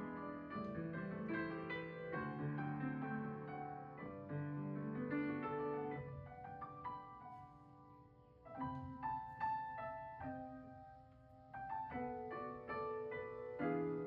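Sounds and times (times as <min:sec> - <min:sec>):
solo acoustic piano: 0:00.0 - 0:14.0.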